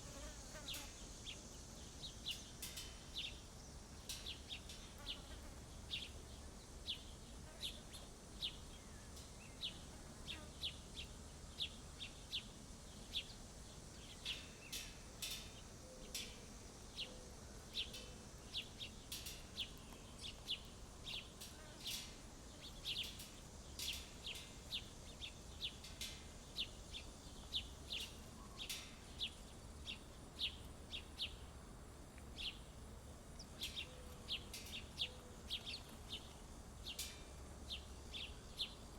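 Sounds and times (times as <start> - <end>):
faint background hiss: 0.0 - 38.9
small songbirds chirping: 0.1 - 38.9.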